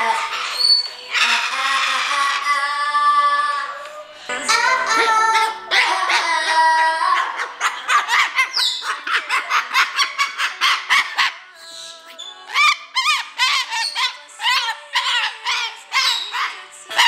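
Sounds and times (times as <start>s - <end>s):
parrot squawking calls: 0.0s - 2.8s, 5.1s - 17.0s.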